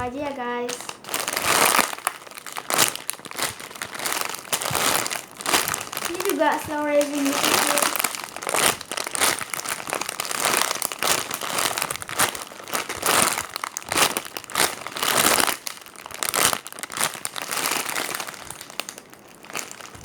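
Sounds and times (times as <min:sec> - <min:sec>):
foam toy crinkling and rustling: 0:00.0 - 0:20.0.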